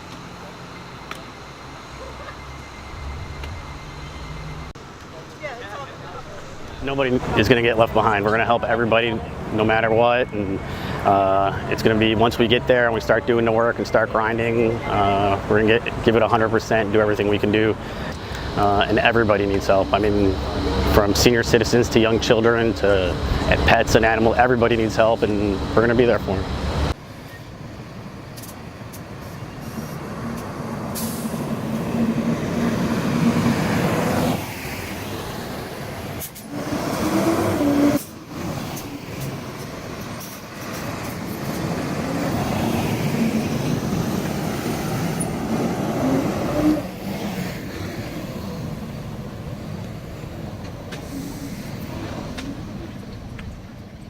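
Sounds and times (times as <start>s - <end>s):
heavy truck engines running: 0.0s - 54.0s.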